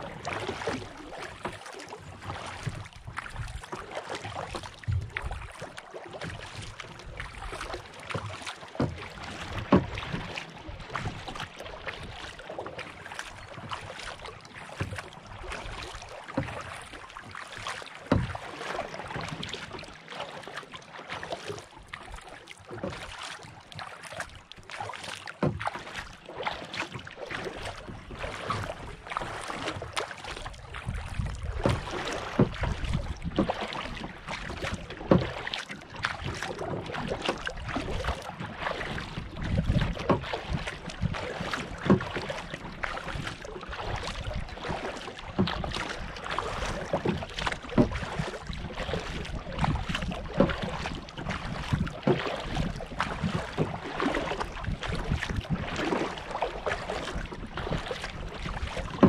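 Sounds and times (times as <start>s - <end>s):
water lapping against kayak hull: 0.0s - 59.0s.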